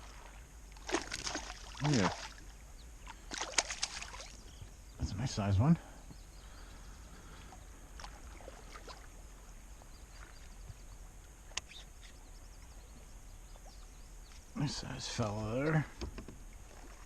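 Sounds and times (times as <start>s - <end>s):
quiet open-air background: 0.0s - 17.0s.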